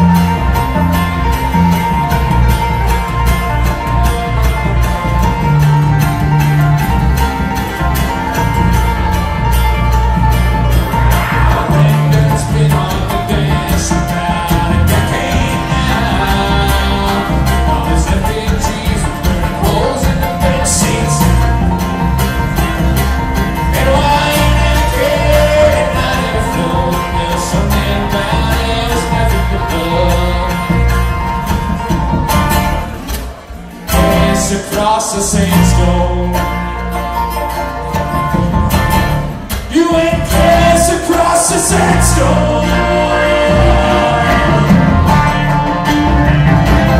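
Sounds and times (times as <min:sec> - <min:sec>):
banjo rolls: 0:00.0 - 0:46.9
bluegrass string band playing: 0:00.0 - 0:46.9.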